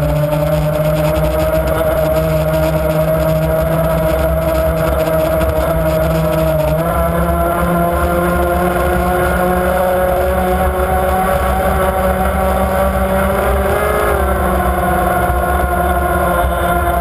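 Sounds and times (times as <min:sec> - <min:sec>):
powerboat engine running: 0:00.0 - 0:17.0.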